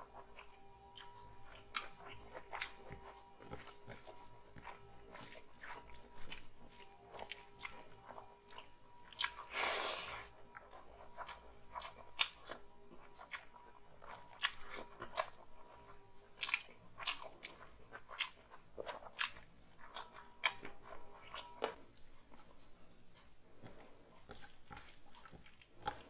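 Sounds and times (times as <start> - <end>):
person chewing and smacking: 0.0 - 26.0.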